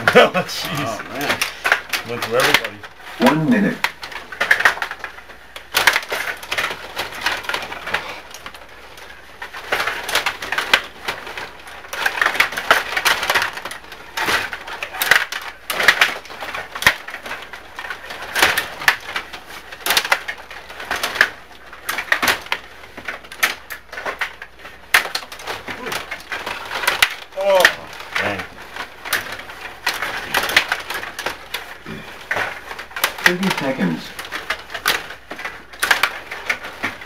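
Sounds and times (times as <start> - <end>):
table hockey players clacking: 0.0 - 37.0.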